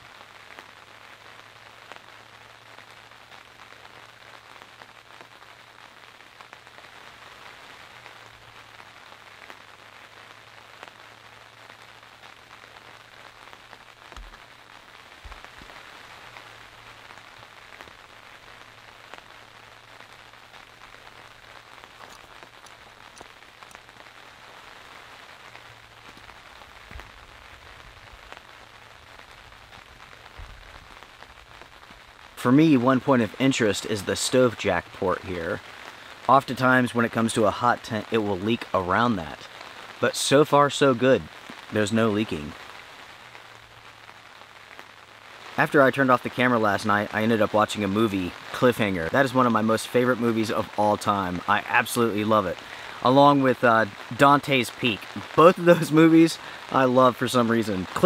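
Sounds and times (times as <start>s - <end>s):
rain falling on a tent: 0.0s - 58.0s.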